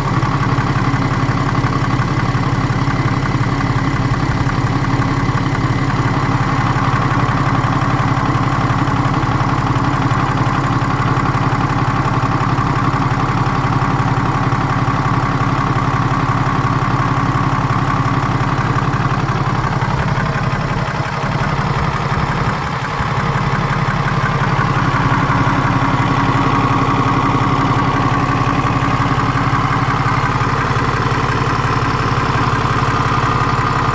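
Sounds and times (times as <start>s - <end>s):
diesel engine idling: 0.0s - 33.9s
engine knocking: 0.0s - 33.9s.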